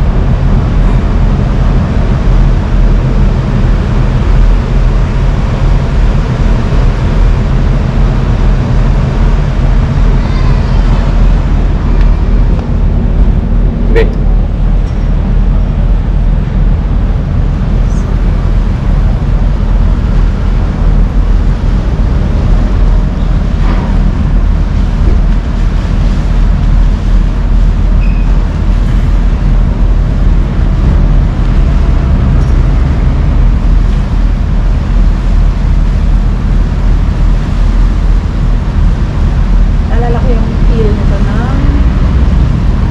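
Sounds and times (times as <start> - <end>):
ferry engine low drone: 0.0 - 42.9.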